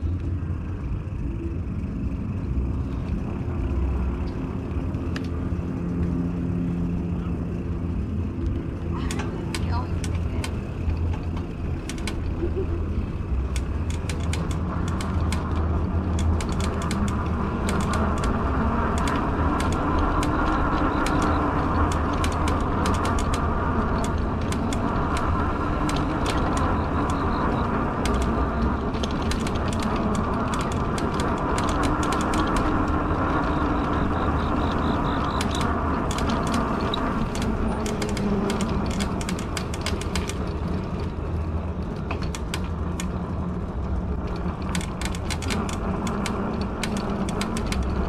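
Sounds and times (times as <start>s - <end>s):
electric motor hum: 0.0s - 48.0s
tyre and wind rumble: 0.0s - 48.0s
irregular clicking: 4.2s - 6.2s, 8.4s - 48.0s.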